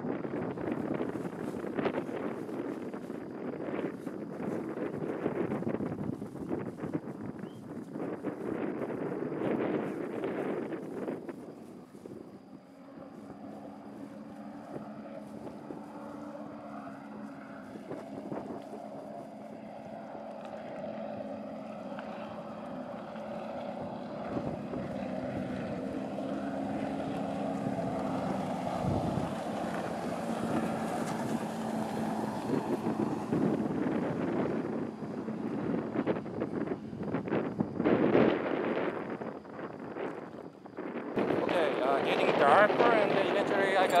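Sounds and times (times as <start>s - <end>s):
motorboat engine droning: 0.0s - 44.0s
wind buffeting microphone: 0.0s - 44.0s.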